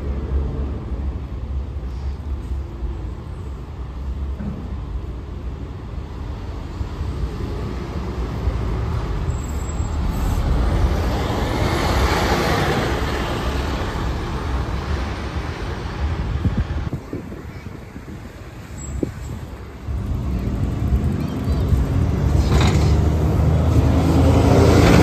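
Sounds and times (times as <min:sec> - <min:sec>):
bus diesel engine passing: 0:00.0 - 0:25.0
low traffic rumble: 0:00.0 - 0:25.0.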